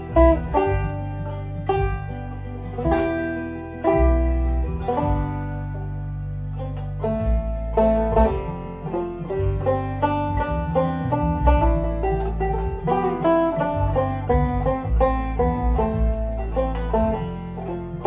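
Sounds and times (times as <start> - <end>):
backing track bass line: 0.0 - 18.0
banjo picking: 0.0 - 18.0.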